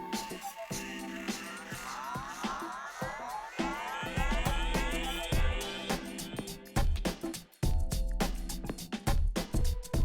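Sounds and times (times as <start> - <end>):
regular drum hits: 0.0 - 10.0.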